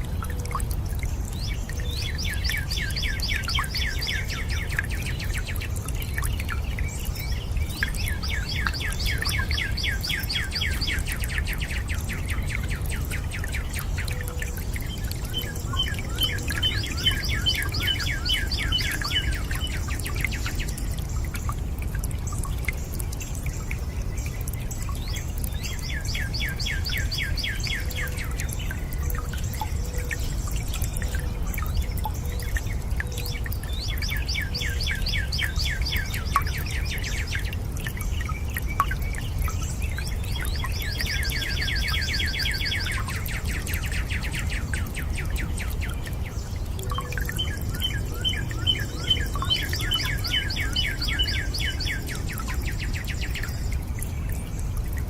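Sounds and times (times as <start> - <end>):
water dripping: 0.0 - 55.0
water running and trickling: 0.0 - 55.0.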